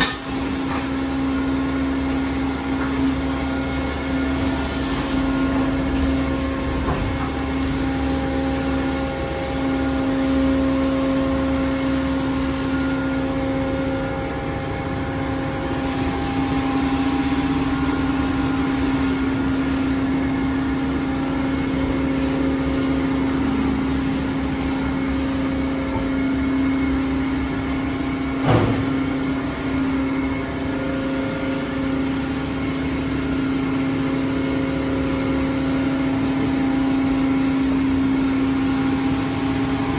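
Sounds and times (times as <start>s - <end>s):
car wash machine humming: 0.0s - 39.9s.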